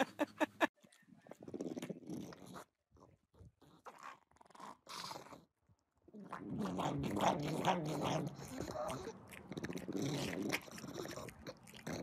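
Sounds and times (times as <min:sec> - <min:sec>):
dog crunching and chewing broccoli: 0:00.9 - 0:05.4, 0:06.2 - 0:12.0.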